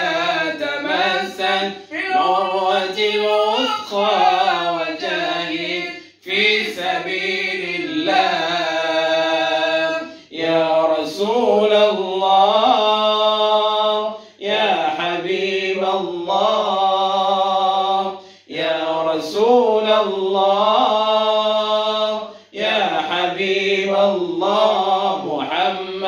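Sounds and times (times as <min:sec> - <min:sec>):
man singing into microphone: 0:00.0 - 0:26.0
voices chanting devotional song: 0:00.0 - 0:26.0.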